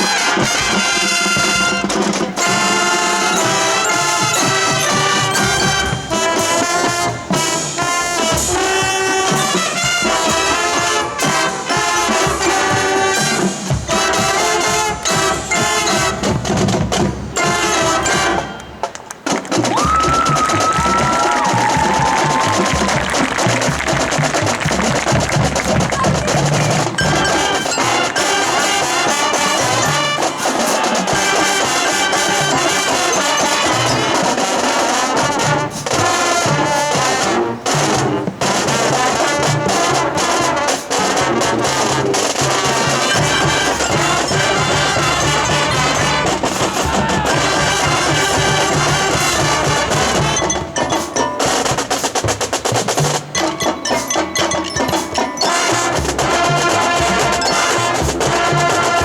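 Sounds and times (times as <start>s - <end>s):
marching band playing: 0.0s - 59.0s.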